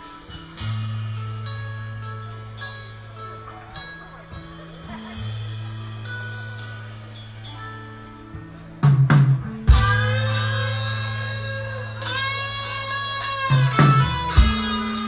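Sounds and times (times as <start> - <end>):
electric guitar and bass: 0.0 - 15.0.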